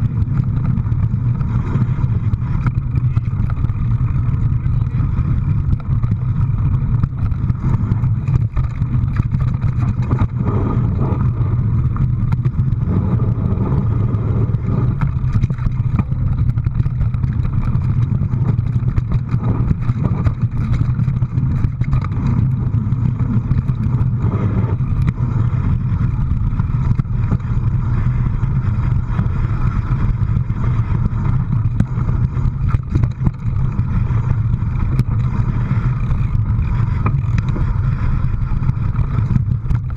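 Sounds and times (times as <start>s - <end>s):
road or wind noise: 0.0s - 39.9s
vehicle engine droning: 0.0s - 39.9s.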